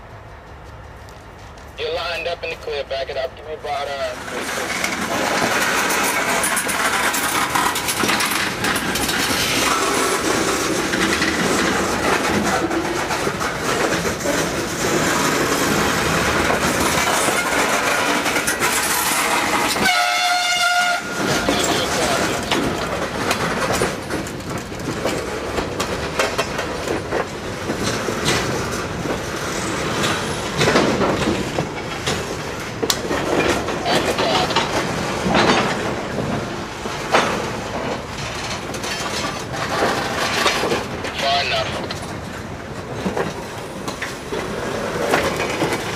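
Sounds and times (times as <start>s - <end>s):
train wheels rumbling over rails: 0.0s - 45.9s.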